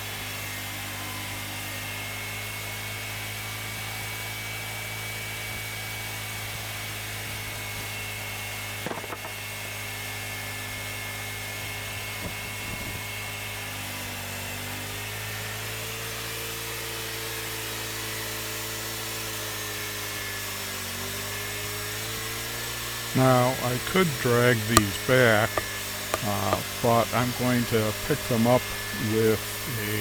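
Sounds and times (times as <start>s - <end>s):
bandsaw mill cutting a log: 0.0s - 30.0s.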